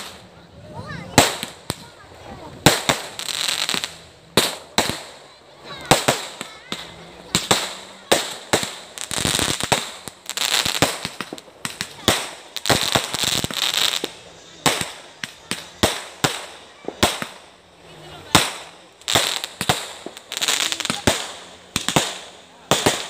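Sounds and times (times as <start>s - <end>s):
fireworks banging: 0.0s - 23.0s
fireworks hissing and crackling: 0.0s - 23.0s.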